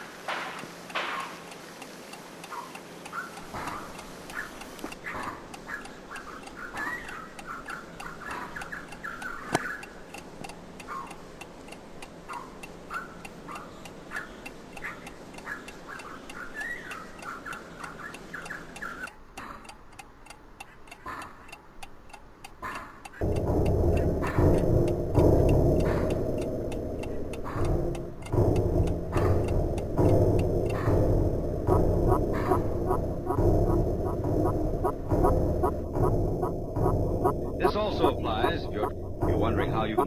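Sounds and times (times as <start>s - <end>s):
rapid ticking: 0.0s - 40.0s.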